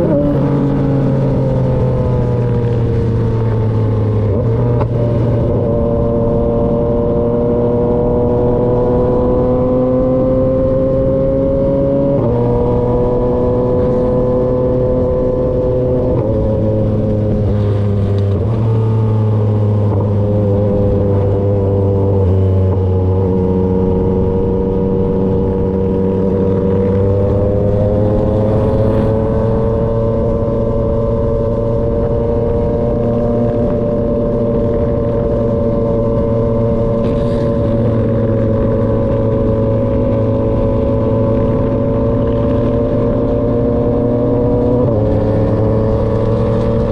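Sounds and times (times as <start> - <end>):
motorcycle engine riding: 0.0 - 46.9.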